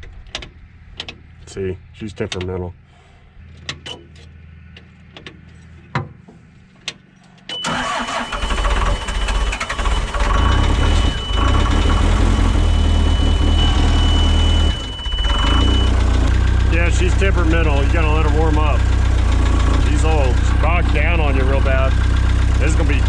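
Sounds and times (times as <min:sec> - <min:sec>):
old vehicle engine rumbling: 0:00.0 - 0:23.0.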